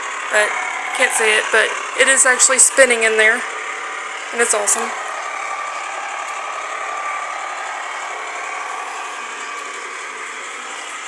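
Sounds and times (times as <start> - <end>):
small electric motor humming: 0.0 - 11.0.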